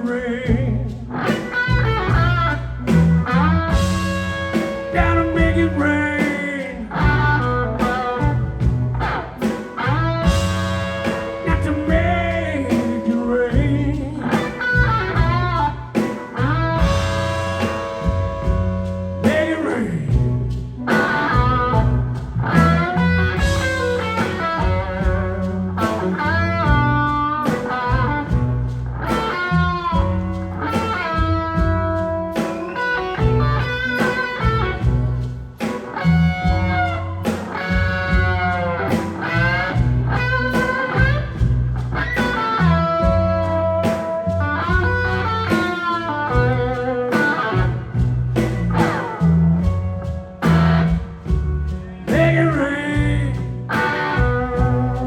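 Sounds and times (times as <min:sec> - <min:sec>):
bass and drums: 0:00.0 - 0:55.0
blues-rock band playing: 0:00.0 - 0:55.0
electric guitar bending notes: 0:00.0 - 0:55.0.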